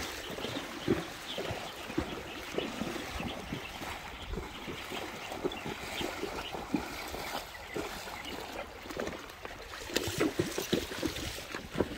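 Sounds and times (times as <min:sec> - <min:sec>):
horses splashing through water: 0:00.0 - 0:11.9.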